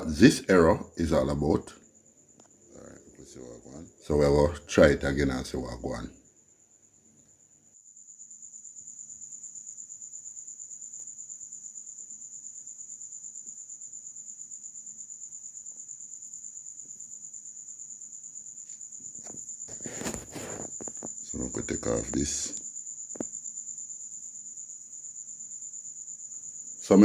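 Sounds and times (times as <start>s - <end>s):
high-pitched insect trill: 0.0s - 27.0s.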